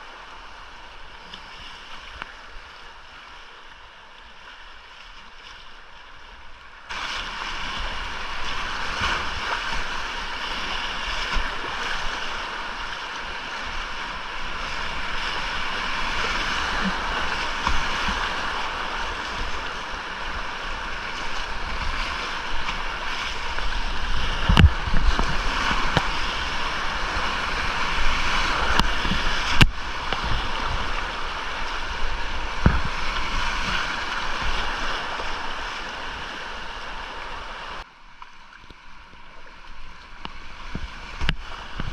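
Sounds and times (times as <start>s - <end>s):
rushing whitewater: 0.0s - 41.9s.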